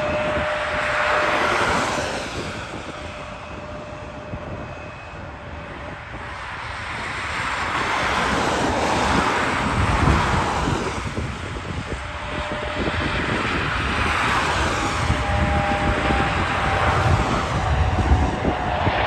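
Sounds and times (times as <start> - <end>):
jet engine noise: 0.0 - 19.0.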